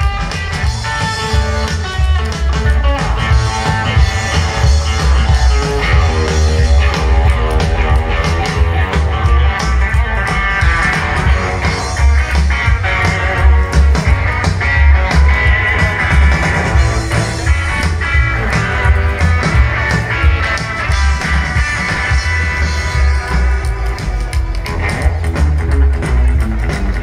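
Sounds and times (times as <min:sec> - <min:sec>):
electric guitar lead: 0:00.0 - 0:27.0
rockabilly band playing: 0:00.0 - 0:27.0.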